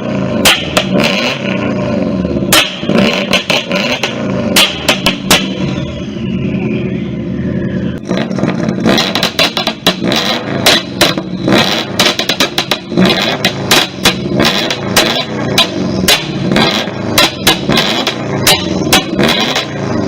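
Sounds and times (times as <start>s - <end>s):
exhaust pops and bangs: 0.0s - 1.6s, 2.5s - 5.8s, 8.0s - 19.8s
car engine revving: 0.0s - 20.0s.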